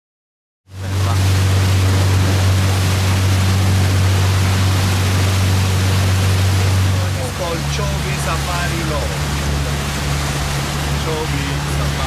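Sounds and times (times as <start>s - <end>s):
boat engine humming: 0.7s - 12.0s
rushing water: 0.7s - 12.0s
wind: 0.7s - 12.0s.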